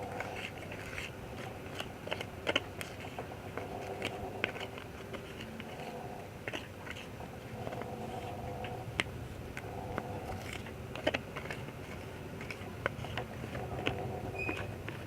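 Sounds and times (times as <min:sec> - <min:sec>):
faint background hum: 0:00.0 - 0:15.0
stirrer scraping a container: 0:00.0 - 0:15.0.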